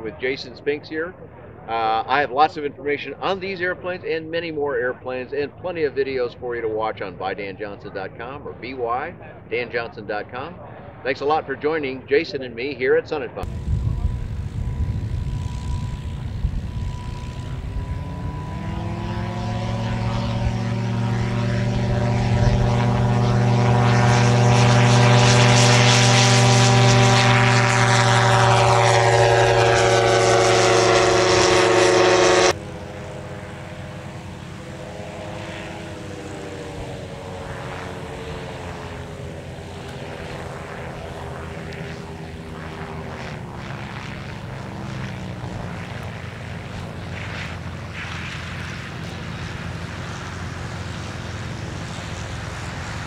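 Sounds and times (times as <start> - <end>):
aircraft engine and propeller: 0.0 - 53.0.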